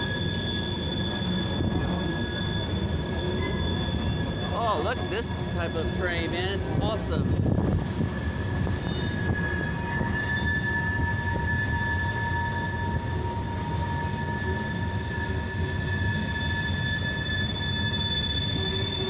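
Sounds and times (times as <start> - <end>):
high-pitched wheel squeal: 0.0 - 19.0
train wheels rumbling on rails: 0.0 - 19.0.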